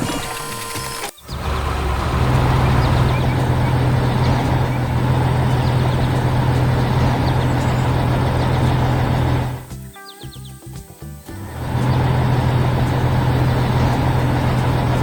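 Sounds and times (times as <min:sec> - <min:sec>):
heavy truck engine droning: 0:01.0 - 0:09.7, 0:11.3 - 0:15.0.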